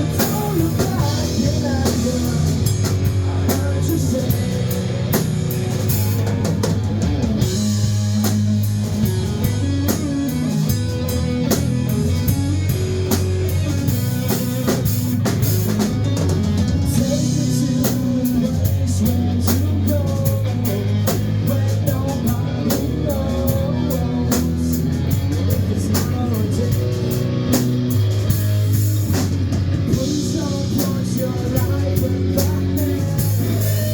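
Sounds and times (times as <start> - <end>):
drum kit beat: 0.0 - 33.9
rock band playing live: 0.0 - 33.9.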